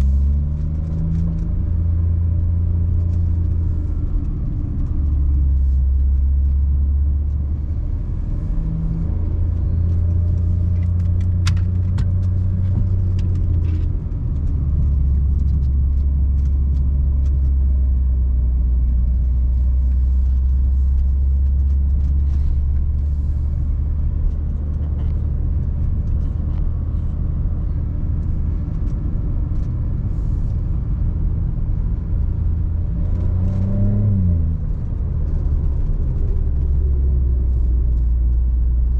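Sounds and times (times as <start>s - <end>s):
car exhaust drone: 0.0s - 38.9s.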